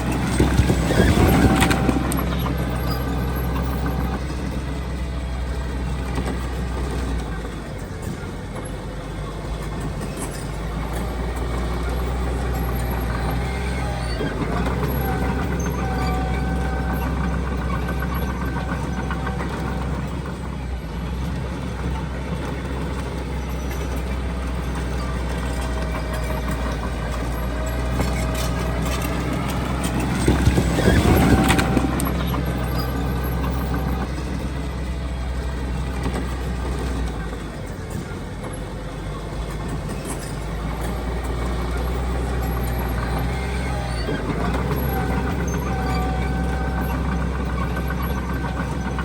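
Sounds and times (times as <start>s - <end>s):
heavy diesel machinery engines: 0.0s - 49.0s
machinery clatter: 0.0s - 49.0s.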